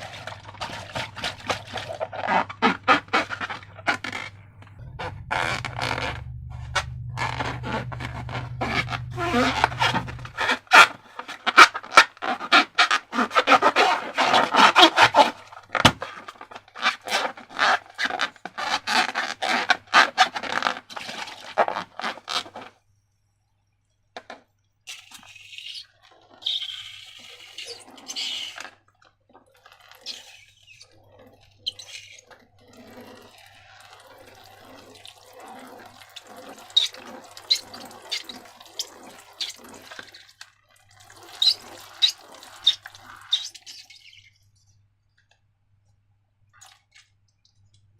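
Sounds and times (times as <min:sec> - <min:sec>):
wet slime squelching: 0:00.0 - 0:22.7, 0:24.9 - 0:44.7.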